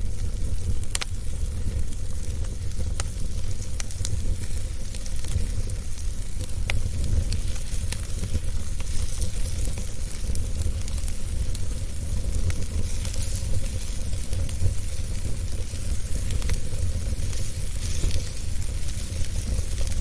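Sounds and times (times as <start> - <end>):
fire popping and crackling: 0.0 - 20.0
fire rumbling and hissing: 0.0 - 20.0.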